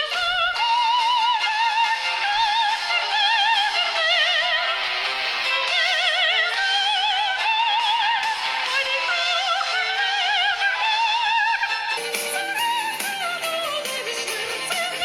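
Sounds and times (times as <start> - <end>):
operatic singing through phone speaker: 0.0 - 15.0.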